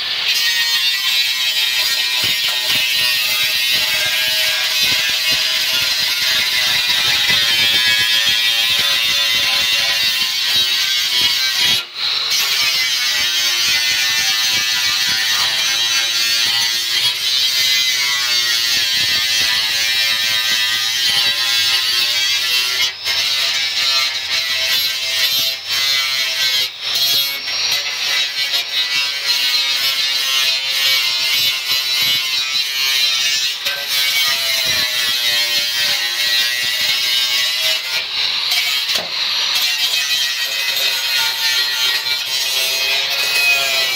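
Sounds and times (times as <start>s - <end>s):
angle grinder cutting sheet steel: 0.0s - 43.9s.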